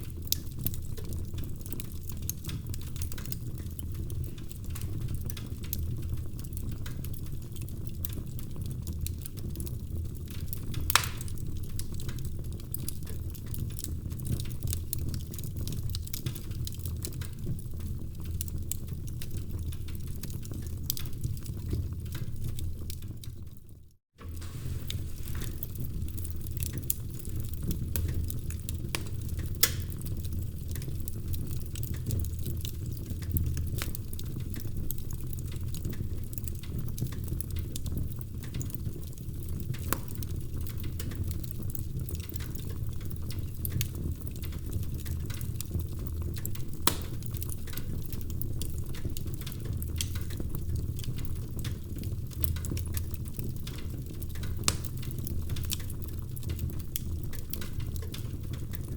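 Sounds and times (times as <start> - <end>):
fire popping and snapping: 0.0 - 58.9
wood fire crackling: 0.0 - 58.9.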